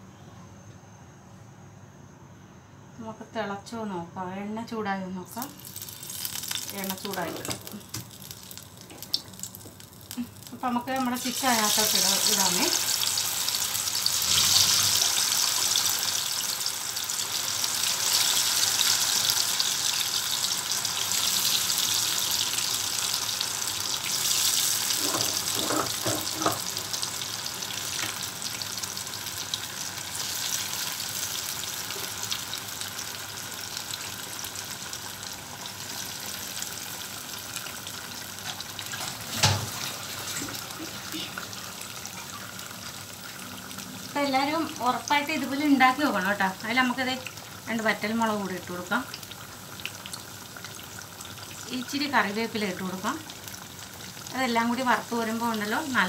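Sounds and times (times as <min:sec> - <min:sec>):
chicken sizzling in hot oil: 0:05.3 - 0:56.0.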